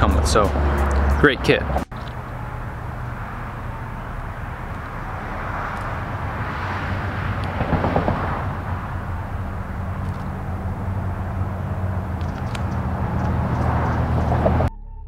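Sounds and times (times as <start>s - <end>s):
steady low hum: 0.0s - 14.7s
vehicle passing: 0.0s - 14.7s.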